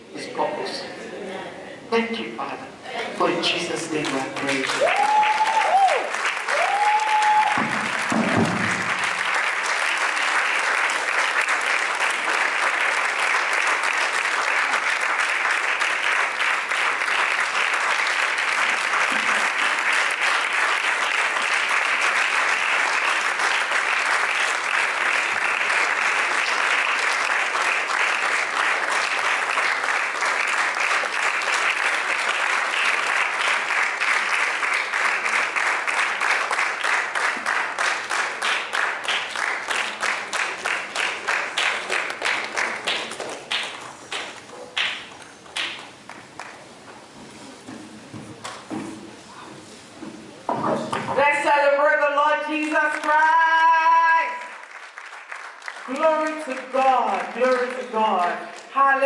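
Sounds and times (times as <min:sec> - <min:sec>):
crowd applauding: 0:03.7 - 0:46.6, 0:52.6 - 0:58.8.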